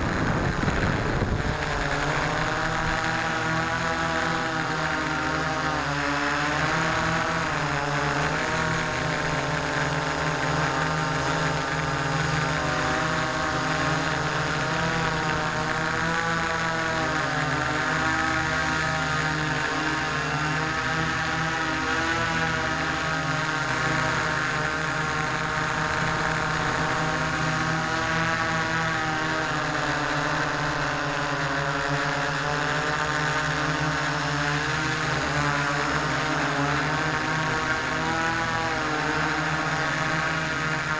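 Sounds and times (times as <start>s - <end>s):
drone motors humming and whining: 0.0s - 40.9s.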